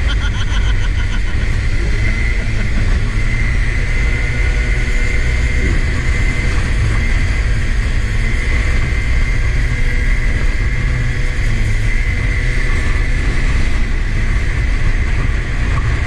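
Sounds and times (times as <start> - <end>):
go-kart engines running: 0.0 - 16.0
wind rumble on microphone: 0.0 - 16.0.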